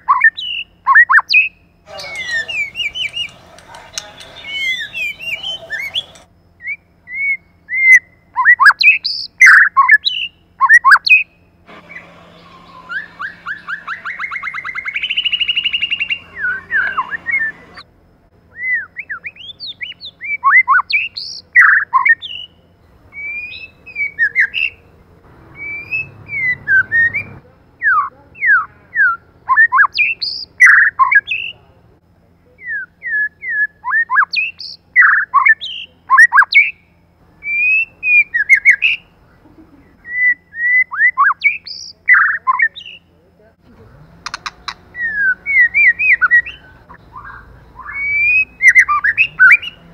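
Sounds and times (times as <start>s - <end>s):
bird singing whistled notes: 0.0s - 17.8s, 18.5s - 24.8s, 25.6s - 31.6s, 32.6s - 39.1s, 40.0s - 43.1s, 44.4s - 49.9s.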